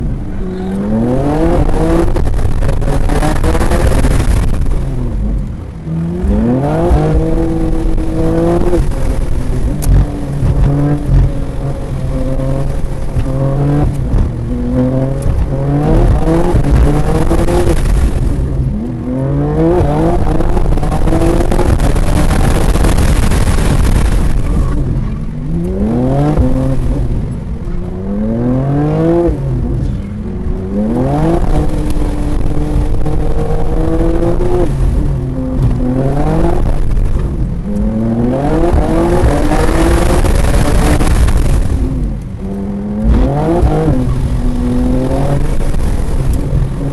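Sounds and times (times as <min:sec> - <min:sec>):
car engine revving at full throttle: 0:00.0 - 0:46.9.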